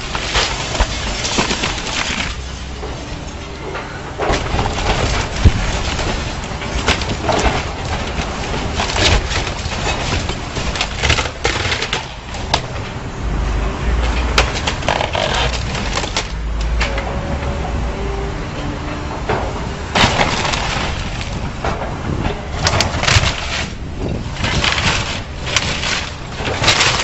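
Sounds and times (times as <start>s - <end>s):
building material cracking: 0.0s - 13.0s, 14.0s - 17.0s, 19.3s - 27.0s
crashing debris rumble: 0.0s - 27.0s.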